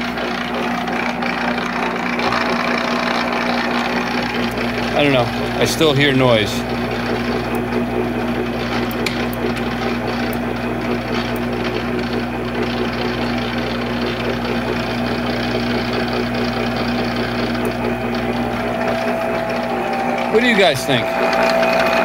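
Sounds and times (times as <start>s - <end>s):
lathe running with mechanical rattle: 0.0s - 22.0s.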